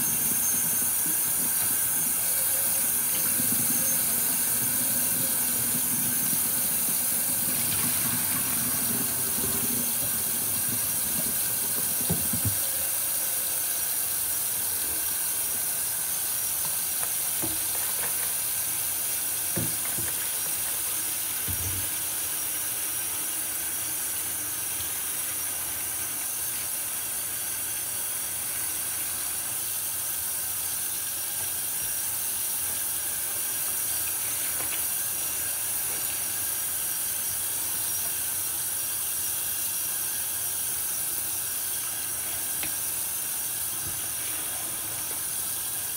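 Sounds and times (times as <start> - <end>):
tap water running into sink: 0.0 - 45.9.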